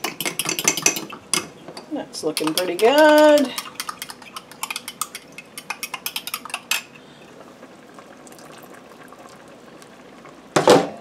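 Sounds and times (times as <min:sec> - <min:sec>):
stew bubbling under lid: 0:00.0 - 0:10.6.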